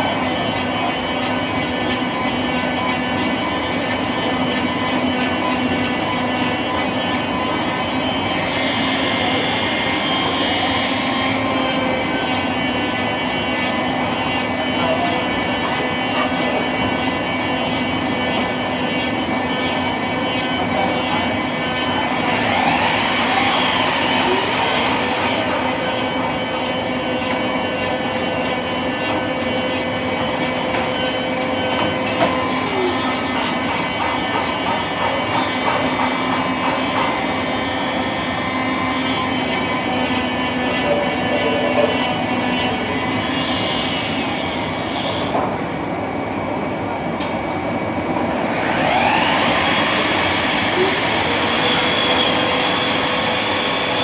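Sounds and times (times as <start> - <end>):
shop vacuum running: 0.0 - 54.0.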